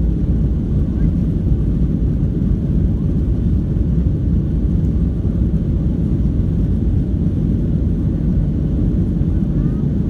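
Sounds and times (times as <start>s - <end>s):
airliner cabin rumble: 0.0s - 10.0s.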